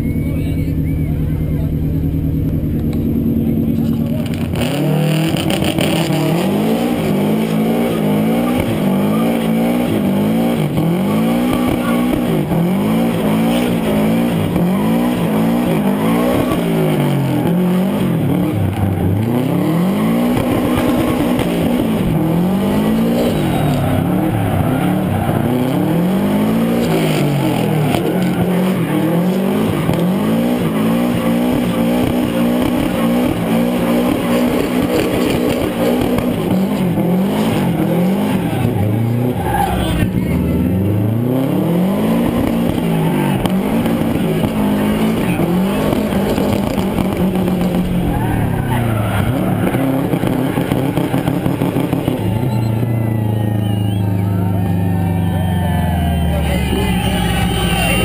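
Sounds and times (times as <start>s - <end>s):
car engine revving hard: 0.0s - 53.6s
tyres squealing: 3.8s - 40.7s, 41.9s - 58.0s.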